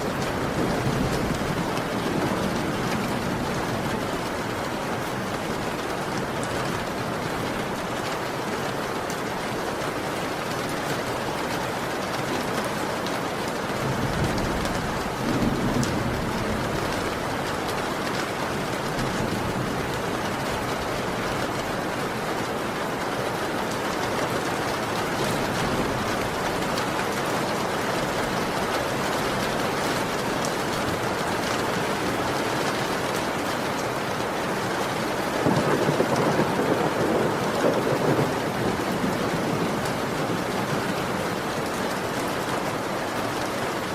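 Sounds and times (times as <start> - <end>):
thunder rumbling: 0.0 - 8.0, 13.7 - 22.4, 23.6 - 42.1
heavy rain: 0.0 - 43.9.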